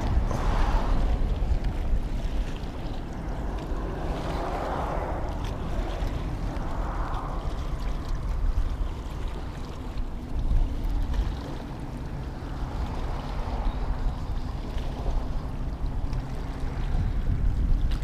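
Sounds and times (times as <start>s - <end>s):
waves washing against rocks: 0.0s - 18.0s
wind rumbling on microphone: 0.0s - 18.0s.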